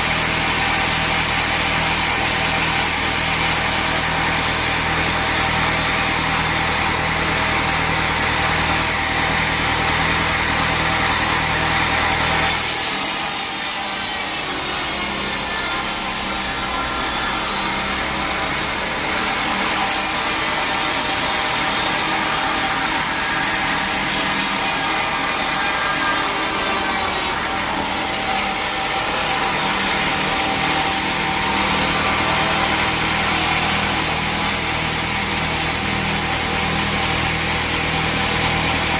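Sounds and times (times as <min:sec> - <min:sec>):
saw blade rasping through log: 0:00.0 - 0:38.9
saw machine hum: 0:00.0 - 0:38.9.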